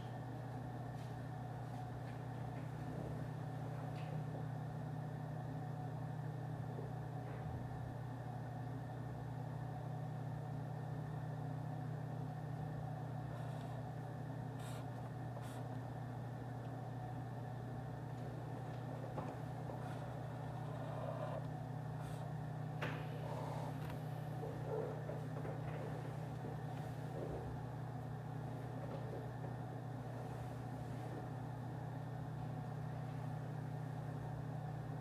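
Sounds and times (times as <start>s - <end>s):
office room hum: 0.0s - 35.0s.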